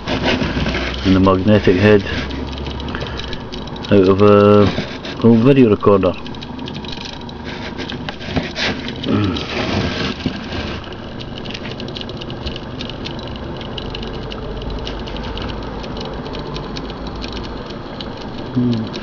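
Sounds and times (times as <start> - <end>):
knocks and rustles: 0.0 - 19.0
low hum: 0.0 - 19.0.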